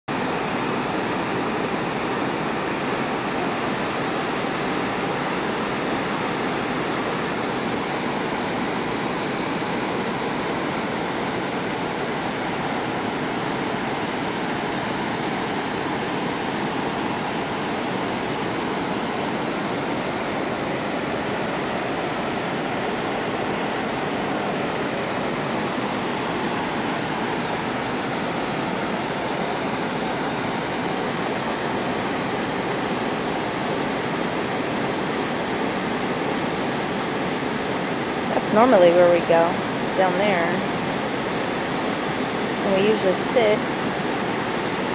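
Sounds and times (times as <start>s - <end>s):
river rushing over rapids: 0.1s - 44.9s.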